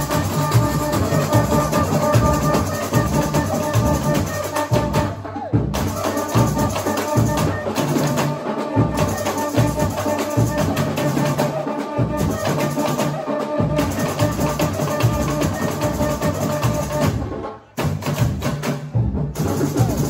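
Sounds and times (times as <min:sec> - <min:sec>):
held melody line: 0:00.0 - 0:05.2, 0:05.8 - 0:17.3
samba drums playing: 0:00.0 - 0:20.0.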